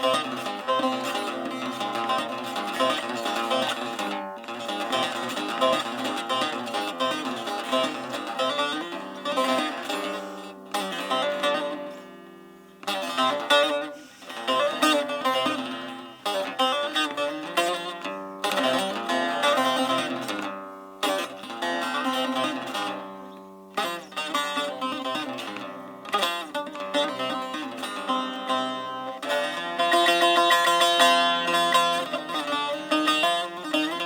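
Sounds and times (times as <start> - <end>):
plucked string instrument: 0.0 - 34.0.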